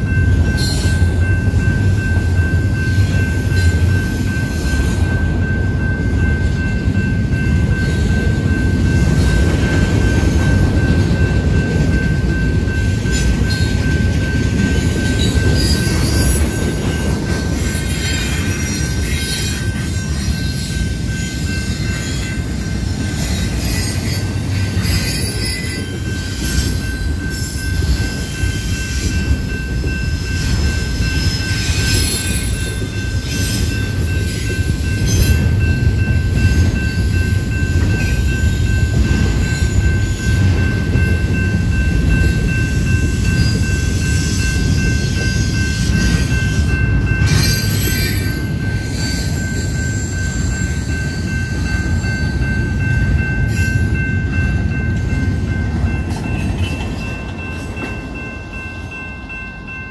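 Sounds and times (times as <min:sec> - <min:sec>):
train clattering: 0:00.0 - 0:59.9
train wheels rumbling on rail: 0:00.0 - 0:59.9.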